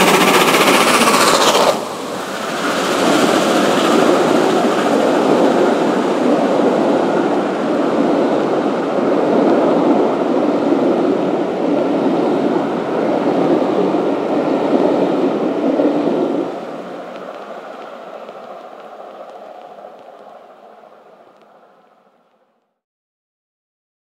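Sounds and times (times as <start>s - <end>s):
train wheels on rail: 0.0s - 21.6s.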